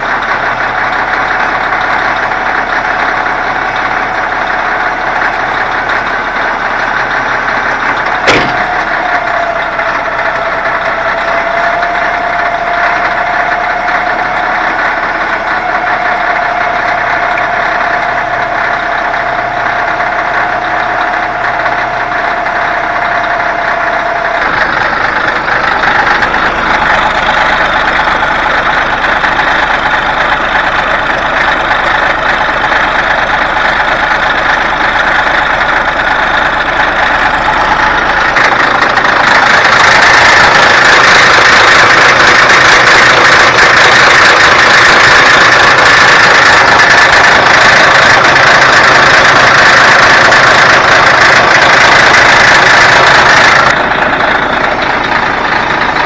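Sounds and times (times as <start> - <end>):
loud engine-like machinery noise: 0.0 - 56.0.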